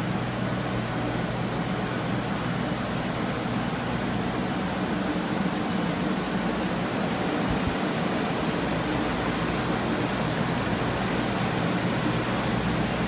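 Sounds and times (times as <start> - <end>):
drying unit low hum: 0.0 - 13.0.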